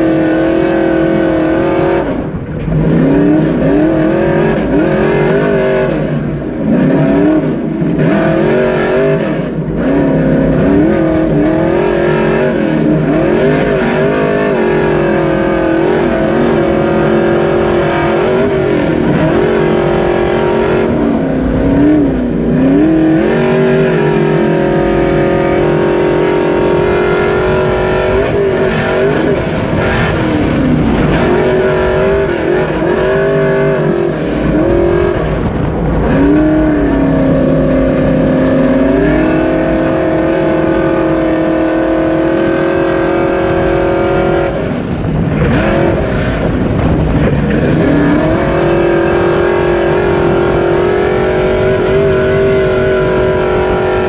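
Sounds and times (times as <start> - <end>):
race truck engine revving: 0.0 - 54.0.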